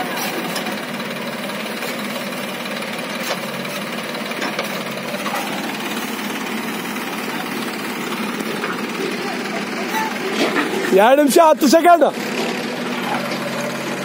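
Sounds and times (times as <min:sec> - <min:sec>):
backhoe diesel engine running: 0:00.0 - 0:14.0.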